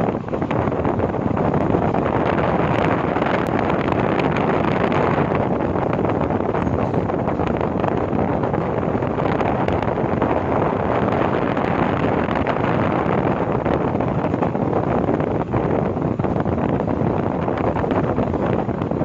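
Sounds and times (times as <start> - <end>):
moving train running noise: 0.0 - 19.0
wind buffeting microphone: 0.0 - 19.0.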